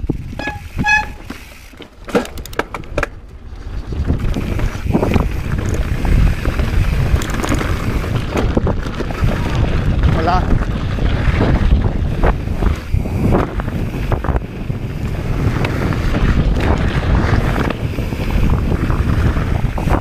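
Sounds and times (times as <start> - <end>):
wind buffeting microphone: 0.0 - 1.8, 2.4 - 20.0
bike tyre rumble: 0.0 - 20.0.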